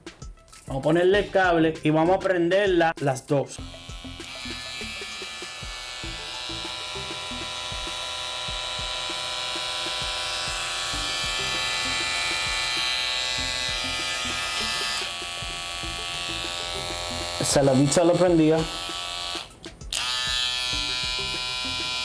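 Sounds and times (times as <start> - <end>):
hair trimmers buzzing: 3.6 - 22.0.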